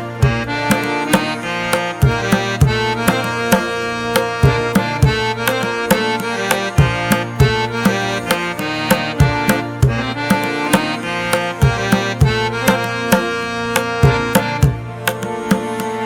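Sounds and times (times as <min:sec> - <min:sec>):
hand-drum beat: 0:00.0 - 0:16.0
melodic instrument: 0:00.0 - 0:16.0.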